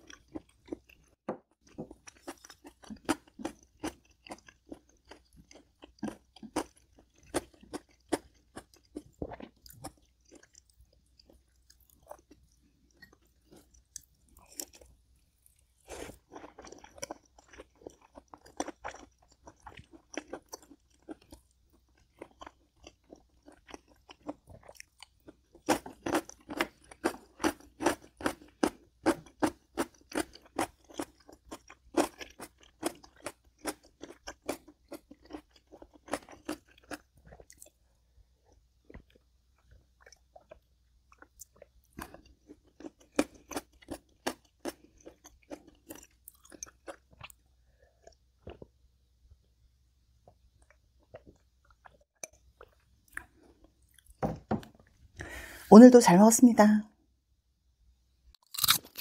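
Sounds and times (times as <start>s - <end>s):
person chewing and crunching food: 0.0s - 55.7s, 58.3s - 59.0s.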